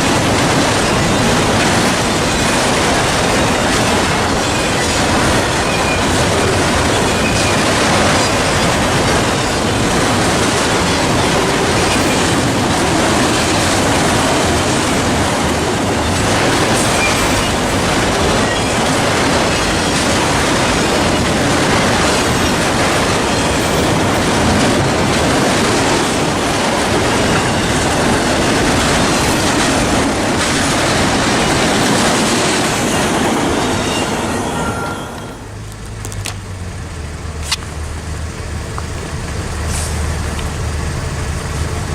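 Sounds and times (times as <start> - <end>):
freight train wheels on rails: 0.0 - 41.9.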